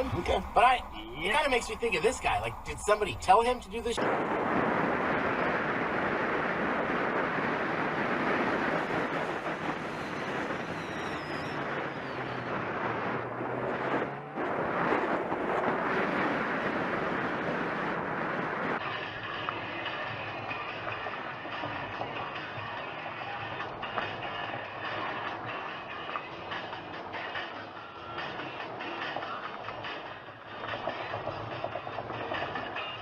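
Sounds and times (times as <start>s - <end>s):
vehicle road and wind noise: 0.0s - 33.0s.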